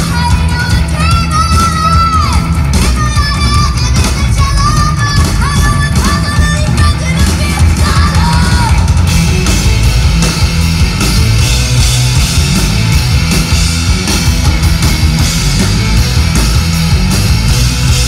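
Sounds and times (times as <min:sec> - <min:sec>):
drums: 0:00.0 - 0:18.0
electric guitars: 0:00.0 - 0:18.0.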